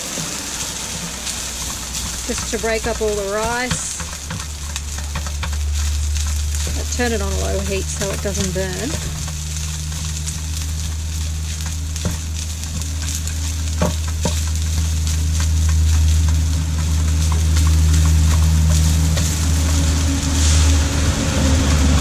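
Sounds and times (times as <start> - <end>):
wooden spatula scraping a pan: 0.0 - 21.9
rice sizzling in a frying pan: 0.0 - 22.0.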